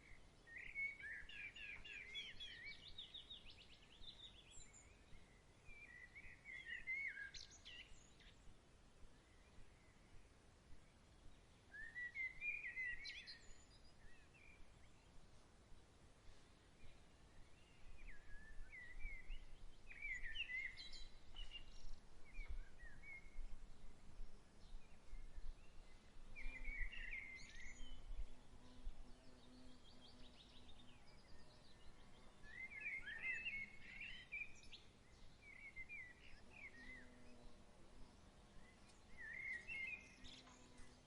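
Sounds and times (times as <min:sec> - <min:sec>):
faint outdoor hiss: 0:00.0 - 0:41.0
songbirds chirping and twittering: 0:00.0 - 0:41.0.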